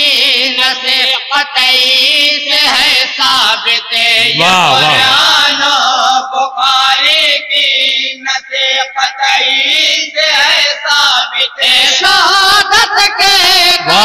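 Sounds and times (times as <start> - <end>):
men chanting devotional poem: 0.0 - 14.0.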